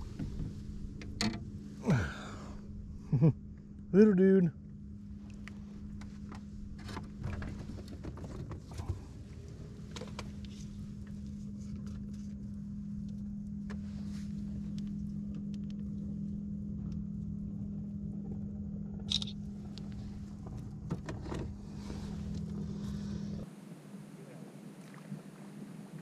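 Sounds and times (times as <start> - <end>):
wind rumbling on microphone: 0.0 - 1.9, 5.0 - 26.0
steady low hum: 0.0 - 26.0.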